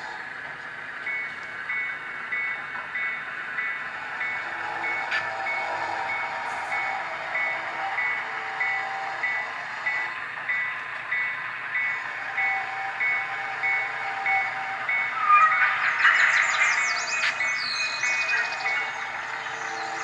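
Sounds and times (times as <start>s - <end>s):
locomotive bell ringing: 1.0s - 20.0s.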